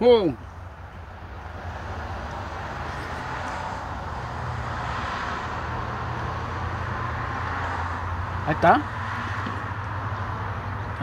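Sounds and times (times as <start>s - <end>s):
passing vehicle engine rumble: 0.3s - 11.0s.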